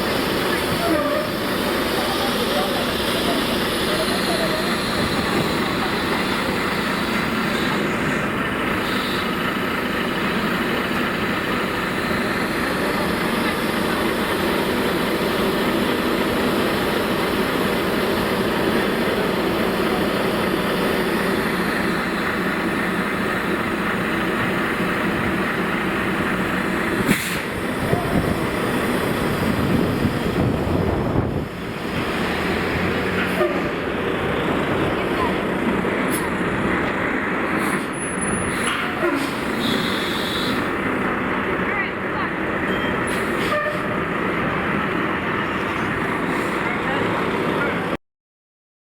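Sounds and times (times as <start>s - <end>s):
road traffic noise: 0.0s - 48.0s.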